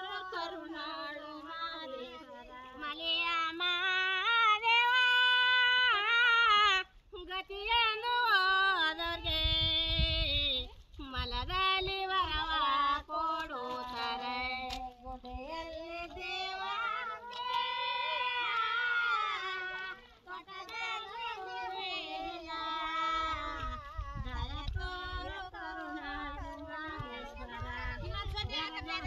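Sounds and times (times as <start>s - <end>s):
woman singing unaccompanied: 0.0s - 29.0s.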